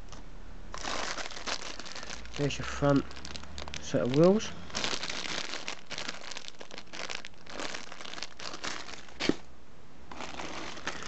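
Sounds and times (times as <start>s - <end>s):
plastic bags crinkling: 0.7s - 9.5s, 10.1s - 11.0s.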